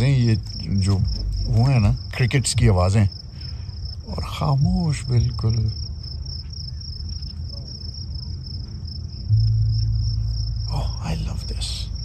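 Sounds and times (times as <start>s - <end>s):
crickets chirping: 0.0s - 12.0s
low steady rumble: 0.0s - 12.0s.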